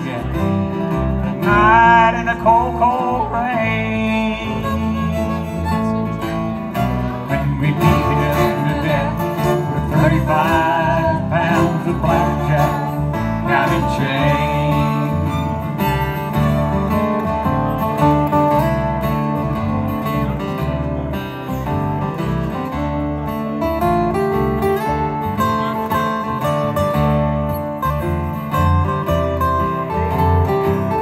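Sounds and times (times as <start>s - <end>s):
acoustic guitars strumming: 0.0s - 31.0s
bass: 0.0s - 31.0s
fiddle lead line: 0.0s - 31.0s.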